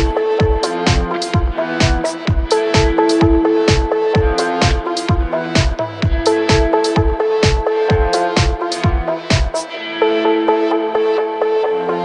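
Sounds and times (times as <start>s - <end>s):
electronic music synth chords: 0.0s - 12.0s.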